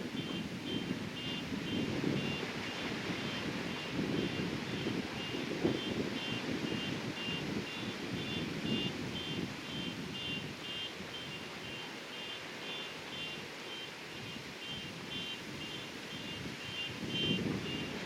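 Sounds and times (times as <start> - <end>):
wind buffeting microphone: 0.0 - 11.7, 14.2 - 18.0
heavy surf rumble: 0.0 - 18.0.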